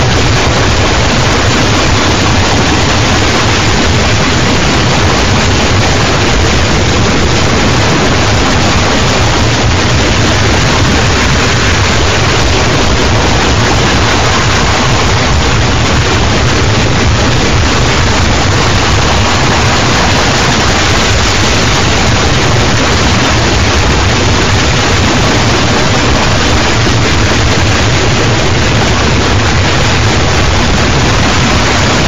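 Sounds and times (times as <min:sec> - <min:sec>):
loud distorted noise wall: 0:00.0 - 0:32.0.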